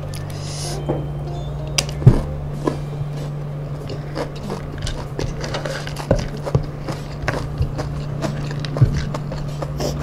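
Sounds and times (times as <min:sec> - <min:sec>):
steady low hum: 0:00.0 - 0:10.0
crunchy chewing: 0:01.8 - 0:10.0.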